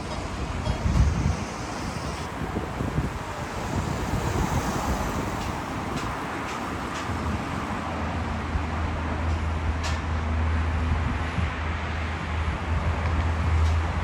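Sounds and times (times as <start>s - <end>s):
traffic drone: 0.0s - 14.0s.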